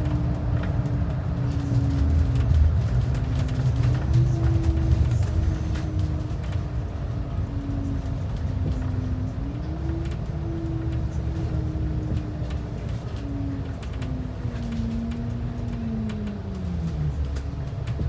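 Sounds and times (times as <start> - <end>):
bus engine and road rumble: 0.0 - 18.0
drivetrain whine: 0.0 - 18.0.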